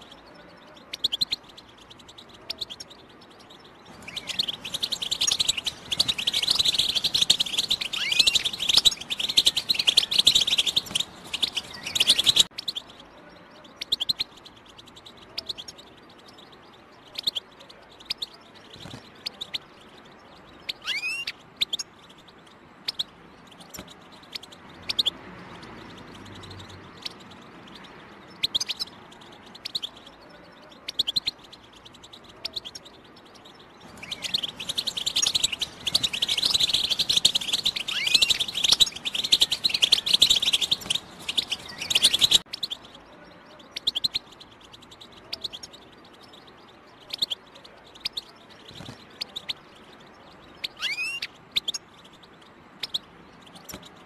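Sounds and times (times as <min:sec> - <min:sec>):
goldfinch twittering: 0:00.0 - 0:54.0.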